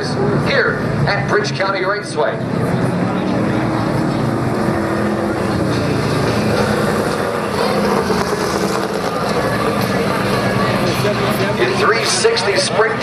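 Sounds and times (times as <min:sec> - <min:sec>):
racing engines running steadily: 0:00.0 - 0:13.0.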